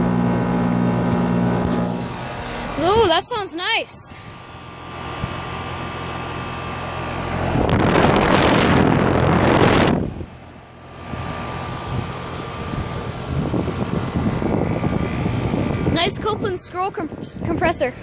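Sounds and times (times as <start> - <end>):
air conditioner unit humming: 0.0 - 18.0.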